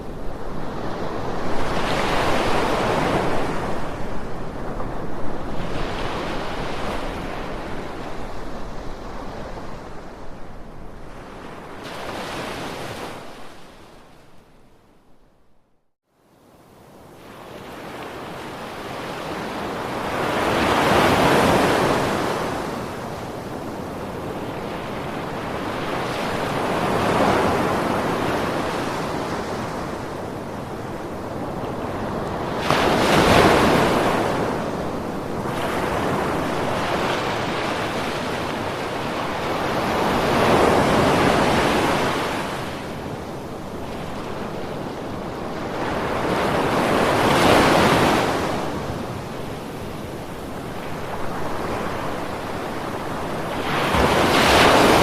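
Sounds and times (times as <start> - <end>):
ocean waves breaking on shore: 0.0 - 14.6, 16.5 - 55.0.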